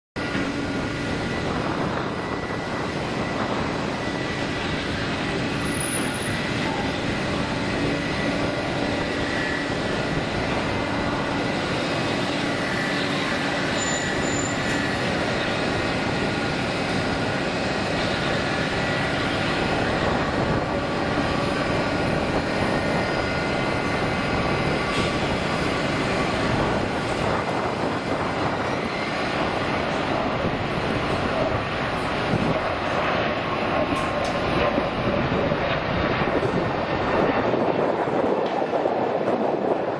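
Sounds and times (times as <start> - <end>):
jet engine roar with whine: 0.2 - 39.9.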